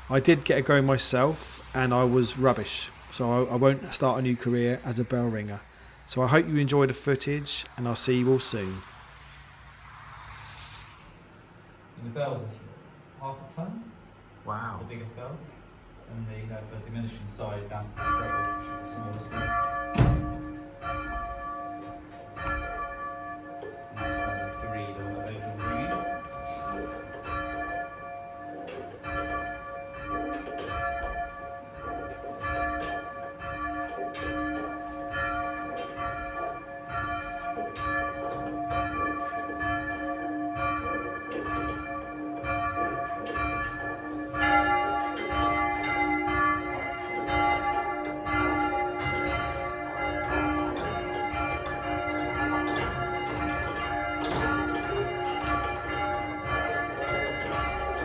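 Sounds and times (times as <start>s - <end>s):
church bells ringing: 0.0s - 9.5s, 16.5s - 58.0s.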